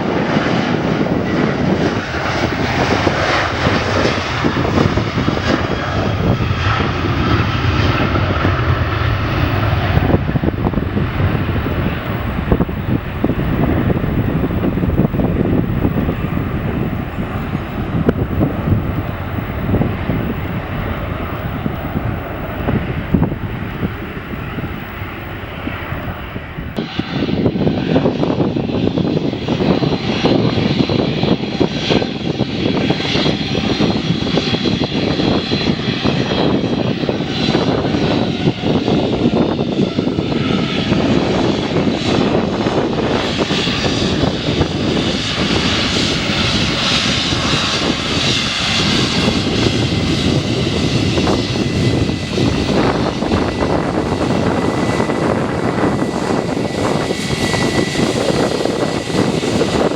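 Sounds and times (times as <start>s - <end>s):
jet engines roaring with high whine: 0.0s - 59.9s.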